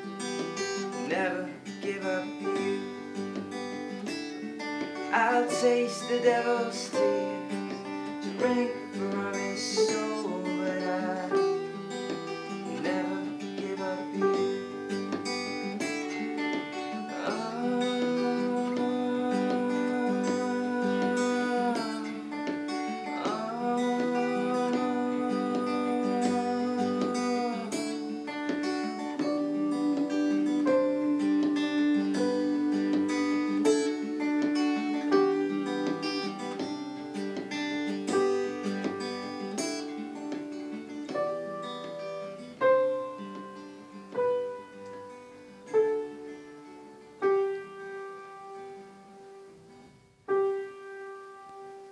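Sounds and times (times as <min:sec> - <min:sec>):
acoustic guitar: 0:00.0 - 0:51.9
piano: 0:00.0 - 0:51.9.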